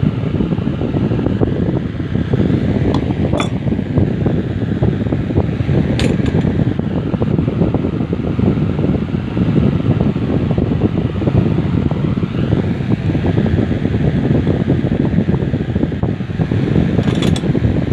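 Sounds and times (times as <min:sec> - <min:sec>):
wind rushing on microphone: 0:00.0 - 0:17.9.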